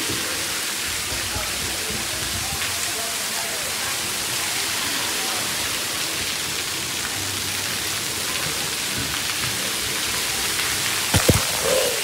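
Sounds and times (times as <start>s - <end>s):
water spraying and splashing: 0.0s - 12.0s.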